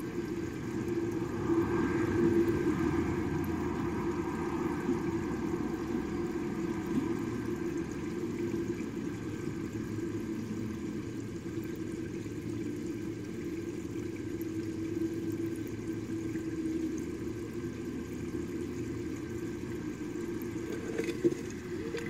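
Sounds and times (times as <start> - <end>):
aquarium pump humming: 0.0 - 22.0
moving water: 0.0 - 22.0.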